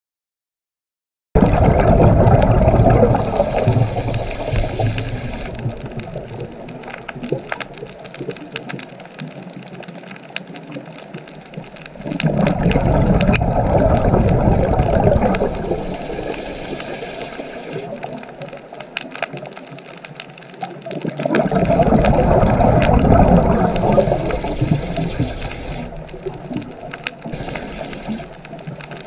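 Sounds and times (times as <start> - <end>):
rushing bubbling underwater water: 1.4 - 29.0
small clicks: 3.3 - 14.1, 15.2 - 22.2, 22.8 - 29.0.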